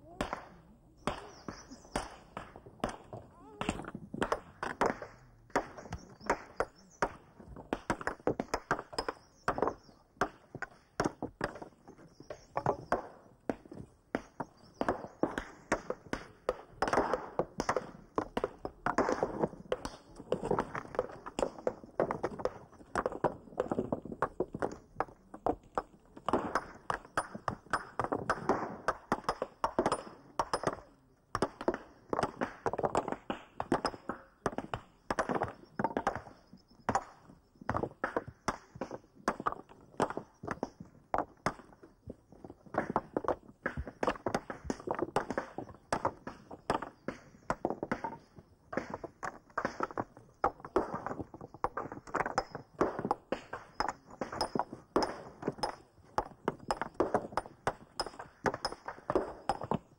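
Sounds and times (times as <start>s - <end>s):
hammers striking rock: 0.1s - 59.9s
stones clattering together: 1.0s - 59.9s.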